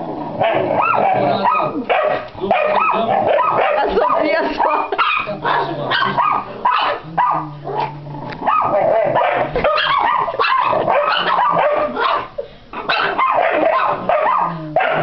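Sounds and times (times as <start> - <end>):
dog growling: 0.0 - 5.0, 5.6 - 12.1, 12.7 - 15.0
dogs barking and yapping: 0.4 - 15.0.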